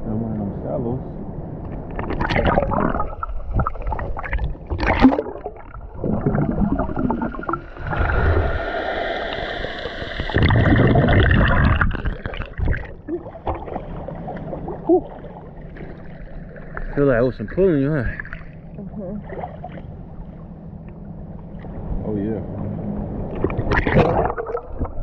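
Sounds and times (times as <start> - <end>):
sea water splashing: 1.6 - 21.9, 22.5 - 25.0
muffled underwater gurgle: 1.6 - 25.0.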